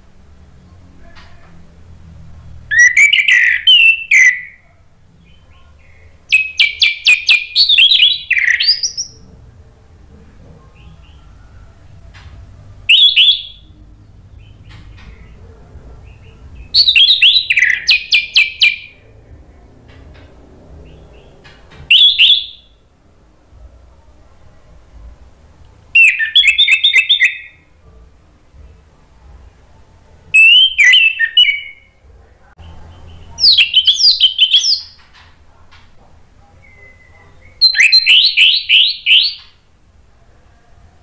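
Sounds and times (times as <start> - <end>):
thrush singing: 0.0 - 35.4.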